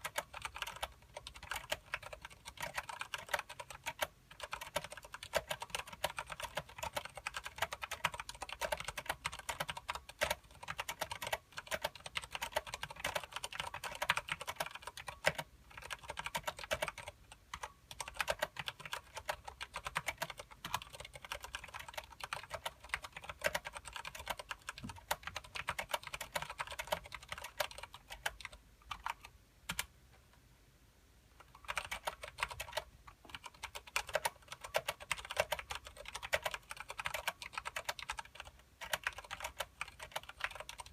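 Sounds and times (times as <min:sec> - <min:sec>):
mechanical keyboard typing: 0:00.0 - 0:29.9, 0:31.4 - 0:40.9.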